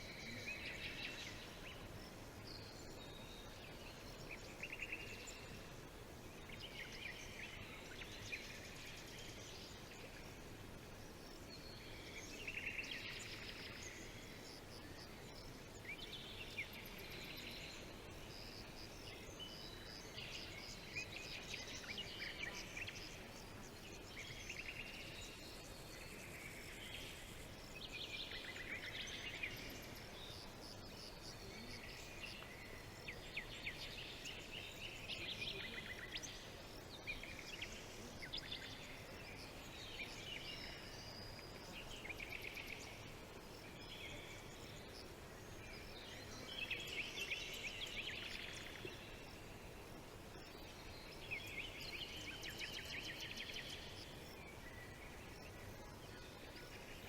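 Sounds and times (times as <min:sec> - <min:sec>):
faint background hiss: 0:00.0 - 0:57.0
small birds chirping and trilling: 0:00.0 - 0:57.0.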